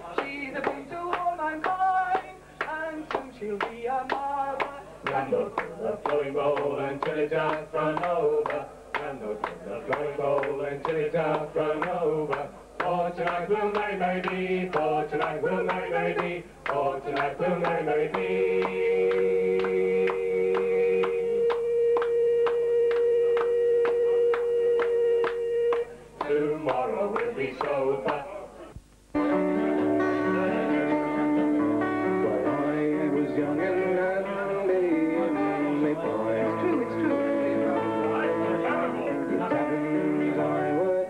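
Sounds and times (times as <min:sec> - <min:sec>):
folk band singing in harmony: 0:00.0 - 0:41.0.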